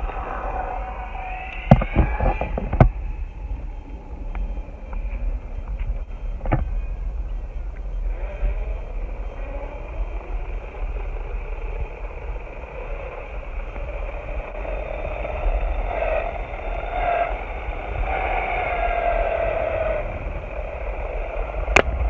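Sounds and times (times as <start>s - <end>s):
electric motor whine: 0.0s - 22.0s
tyres rumbling on asphalt: 0.0s - 22.0s.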